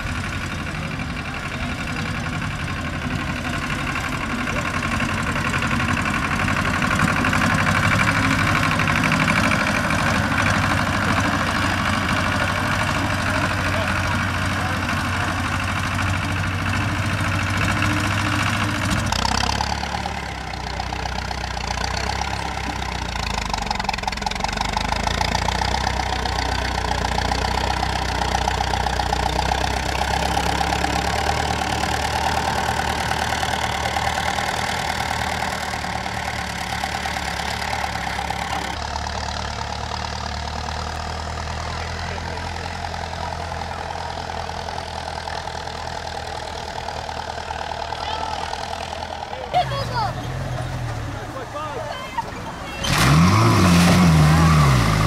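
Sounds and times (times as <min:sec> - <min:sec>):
tractor engine chugging: 0:00.0 - 0:55.0.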